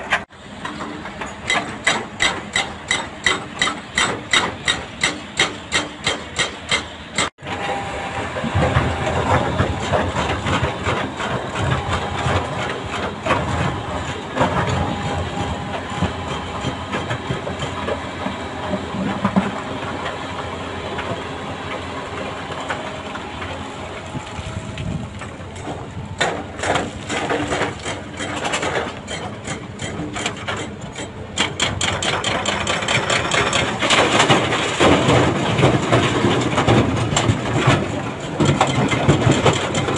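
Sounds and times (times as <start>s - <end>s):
hydraulic breaker hammering rock: 0.0s - 21.8s, 24.8s - 39.9s
excavator diesel engine: 0.0s - 39.9s.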